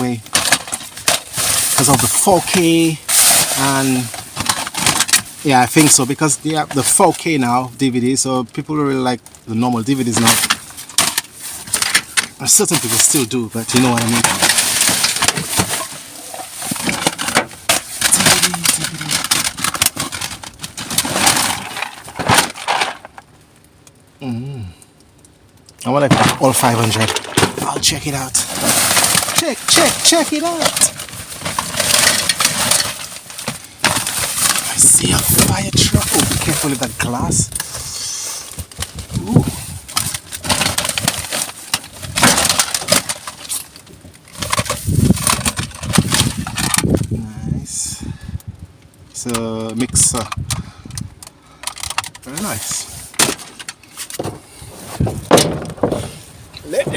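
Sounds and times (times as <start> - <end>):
plastic cases clattering in a bin: 0.0 - 7.6, 9.9 - 23.2, 26.0 - 37.8, 38.6 - 47.1, 51.6 - 56.9.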